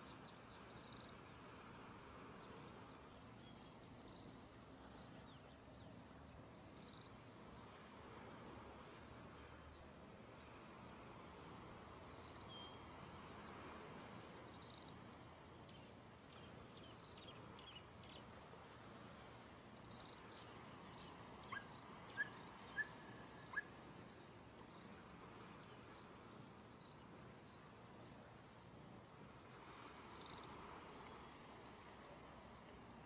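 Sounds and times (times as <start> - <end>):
sea surf: 0.0 - 33.0.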